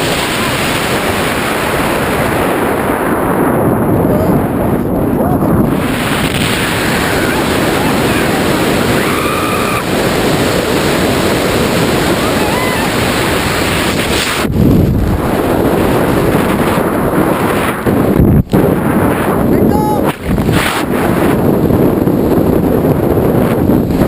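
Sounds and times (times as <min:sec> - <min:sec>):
wind roaring over microphone: 0:00.0 - 0:24.0.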